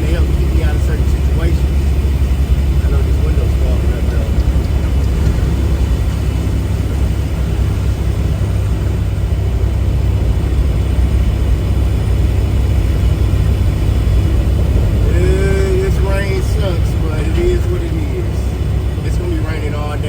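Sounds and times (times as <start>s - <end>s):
road noise: 0.0s - 20.0s
truck engine rumbling: 0.0s - 20.0s.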